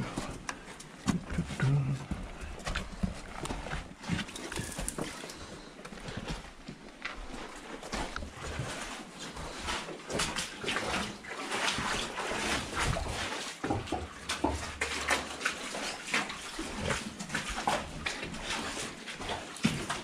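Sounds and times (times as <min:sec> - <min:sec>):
footsteps splashing in water: 0:00.0 - 0:20.0.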